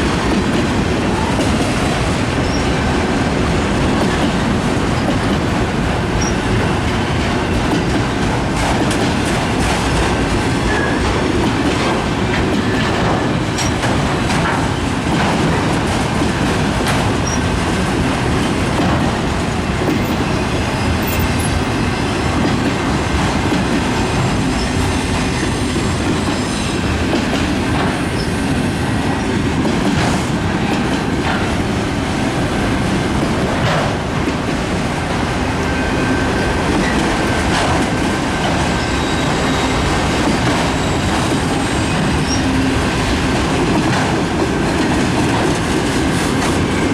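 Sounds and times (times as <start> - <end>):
train wheels rumbling on rail: 0.0 - 46.9
wheels clacking over rail joints: 0.0 - 46.9.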